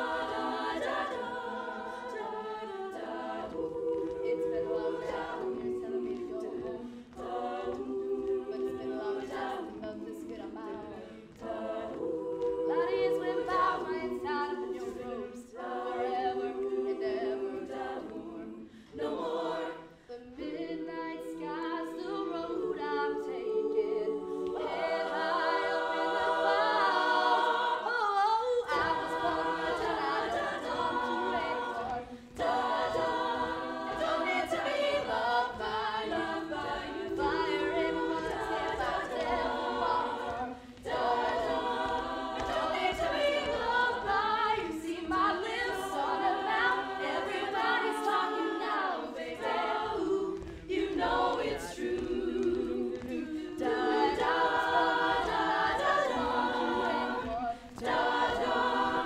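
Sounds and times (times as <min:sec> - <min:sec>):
close-harmony backing vocals: 0:00.0 - 0:59.0.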